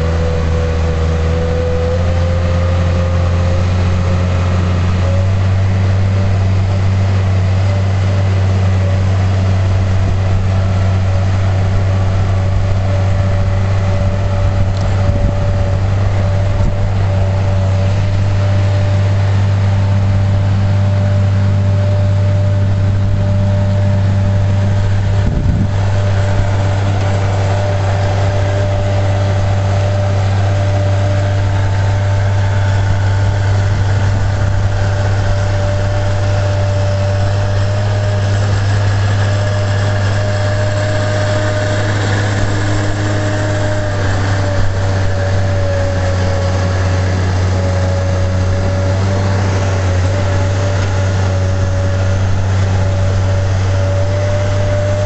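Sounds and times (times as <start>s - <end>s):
thin steady whine: 0.0s - 55.0s
truck engine deep hum: 0.0s - 55.0s.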